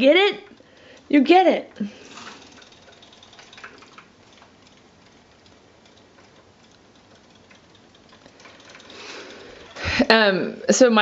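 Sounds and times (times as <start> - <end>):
faint rapid ticking of toy fish: 0.0 - 10.2.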